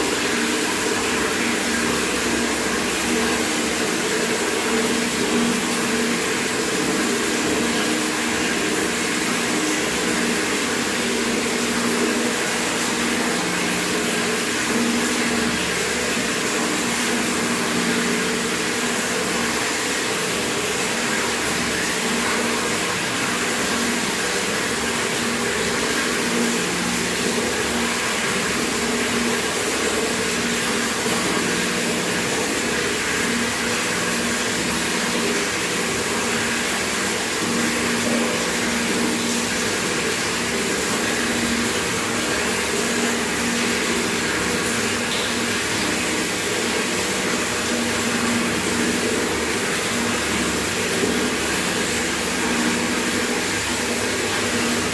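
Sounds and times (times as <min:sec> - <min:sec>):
tap water running into bucket: 0:00.0 - 0:54.9.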